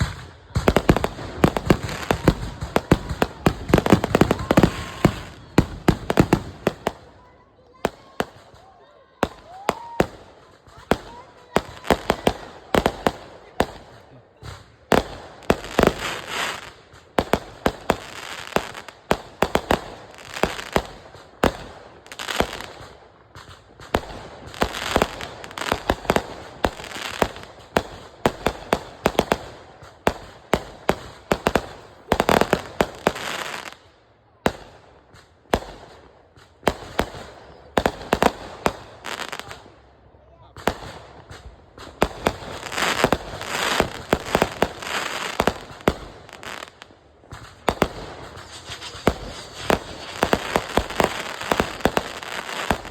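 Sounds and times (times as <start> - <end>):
firework bangs: 0.0 - 33.8, 34.4 - 52.9
firework crackling: 0.0 - 52.9.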